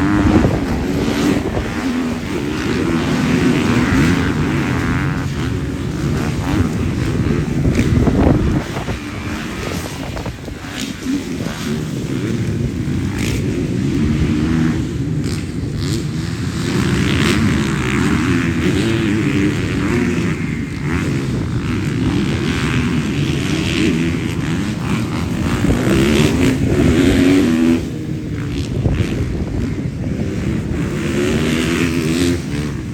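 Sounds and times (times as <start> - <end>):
motorcycle engines revving: 0.0 - 32.9.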